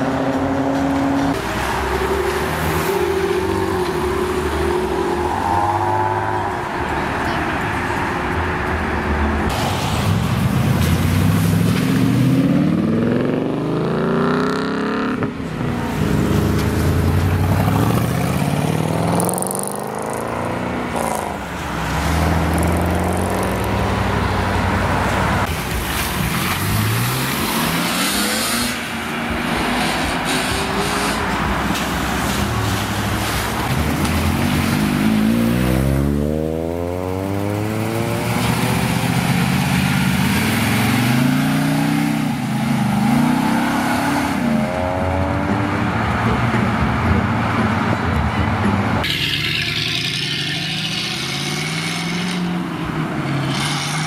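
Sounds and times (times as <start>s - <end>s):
cars accelerating past: 0.0s - 54.0s
tyre and road noise: 0.0s - 54.0s.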